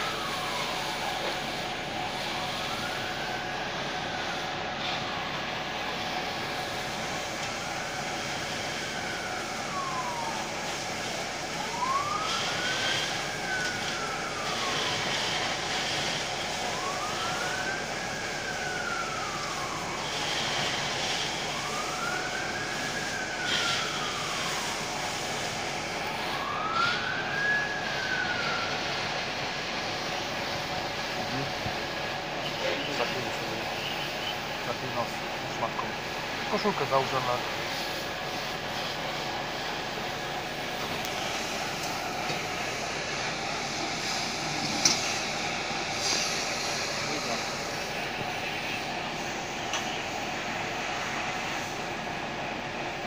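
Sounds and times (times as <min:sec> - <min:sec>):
emergency siren wailing: 0:00.0 - 0:53.0
steady background noise: 0:00.0 - 0:53.0.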